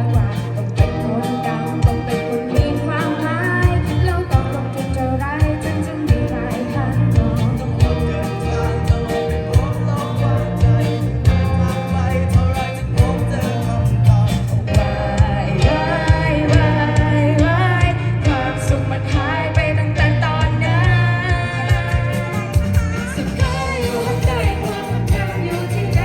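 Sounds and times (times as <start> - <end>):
person singing: 0.0 - 26.0
rock band playing: 0.0 - 26.0.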